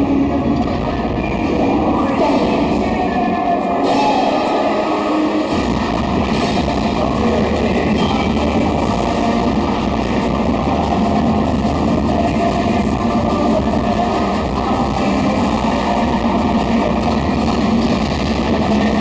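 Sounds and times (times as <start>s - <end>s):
heavy low rumble: 0.0s - 19.0s
loud rock music with guitar: 0.0s - 19.0s.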